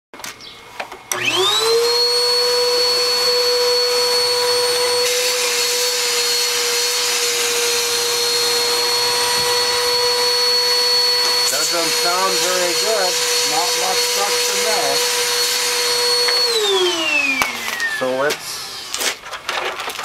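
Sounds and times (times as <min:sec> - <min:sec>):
vacuum cleaner motor whine: 0:01.0 - 0:19.2.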